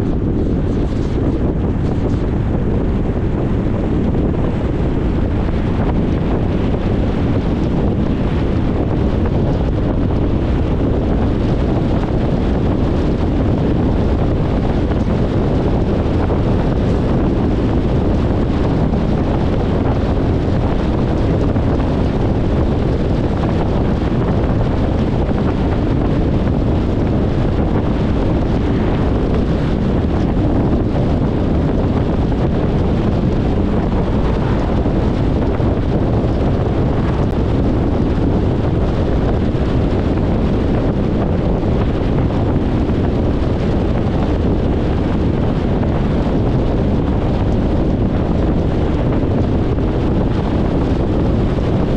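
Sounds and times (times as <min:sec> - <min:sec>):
car road noise: 0:00.0 - 0:51.9.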